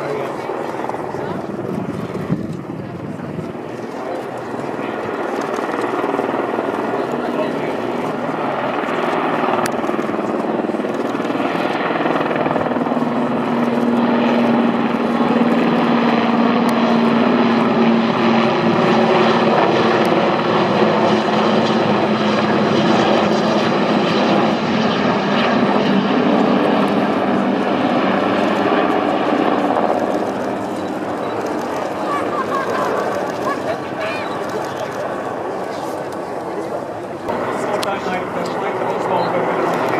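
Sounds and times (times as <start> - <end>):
helicopters flying past: 0.0 - 39.9.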